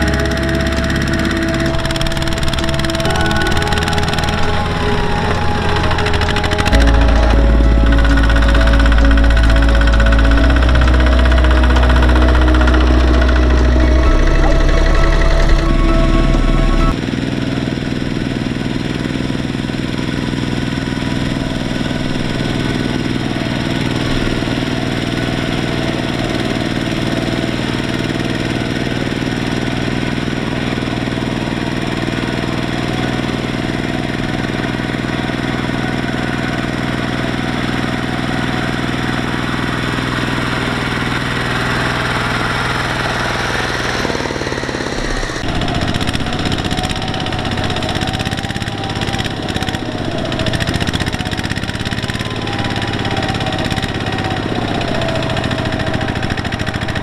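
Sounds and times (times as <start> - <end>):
diesel tractor engine under load: 0.0 - 57.0.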